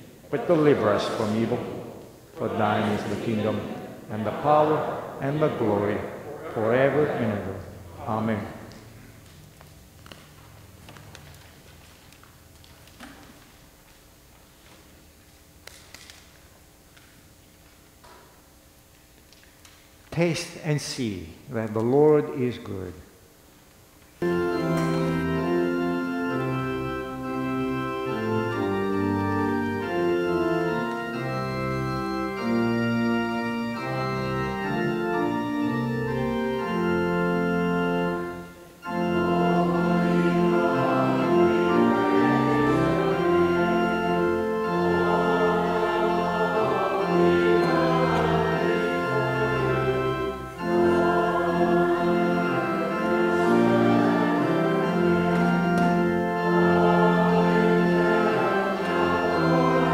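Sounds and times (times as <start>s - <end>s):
church organ chords: 0.0s - 12.9s, 24.2s - 59.9s.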